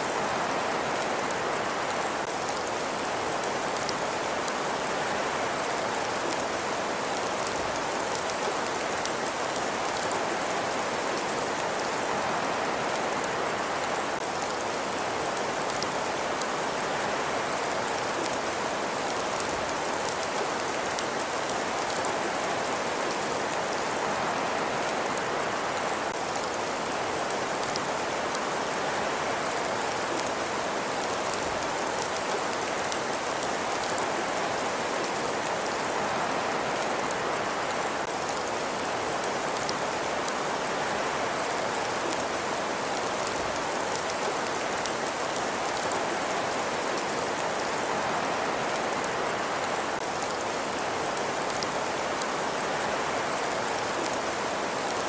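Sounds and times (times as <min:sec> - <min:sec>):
rain-like hiss: 0:00.0 - 0:55.0.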